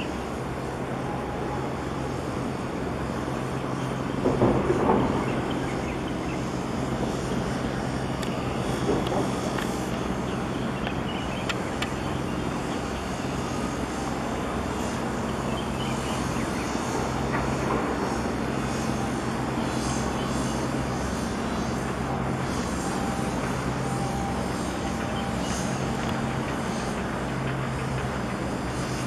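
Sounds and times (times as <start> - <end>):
boat engine droning: 0.0 - 29.0
hiss of wind and water: 0.0 - 29.0.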